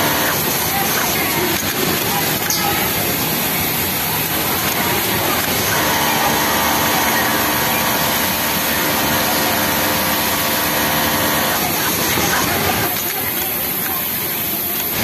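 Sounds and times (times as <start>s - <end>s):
sewing machine humming: 0.0s - 15.0s.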